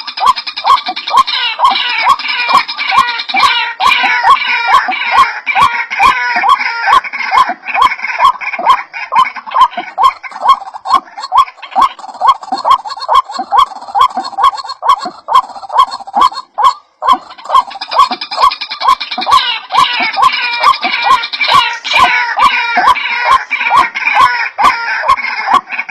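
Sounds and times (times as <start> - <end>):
waterhen calling: 0.0 - 25.9.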